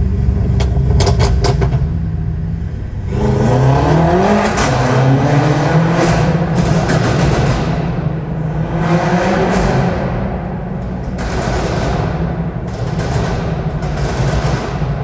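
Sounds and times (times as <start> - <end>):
car engine accelerating hard: 0.0 - 15.0
exhaust cracks: 0.0 - 15.0.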